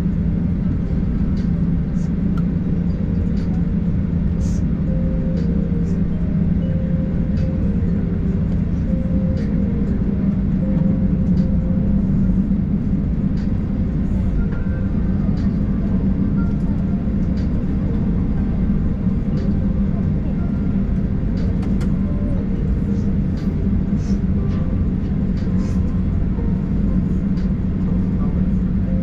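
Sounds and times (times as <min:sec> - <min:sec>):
vehicle interior rumble: 0:00.0 - 0:29.0.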